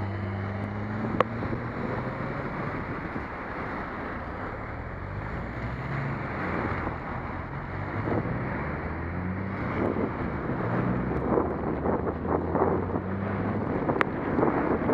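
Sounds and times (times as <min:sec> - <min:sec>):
low hum of car engines: 0:00.0 - 0:14.9
wind rushing over microphone: 0:00.0 - 0:14.9.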